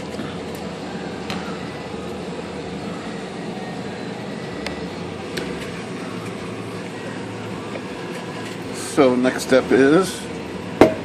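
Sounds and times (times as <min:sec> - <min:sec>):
workshop hum and hiss: 0:00.0 - 0:11.0.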